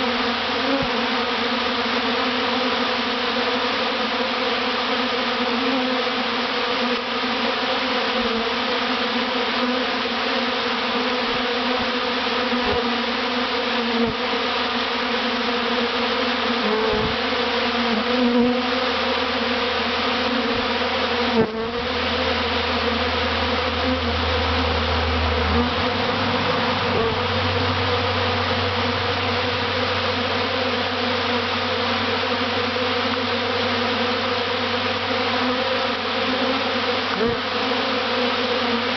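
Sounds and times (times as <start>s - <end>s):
swarm of bees buzzing: 0.0s - 38.9s.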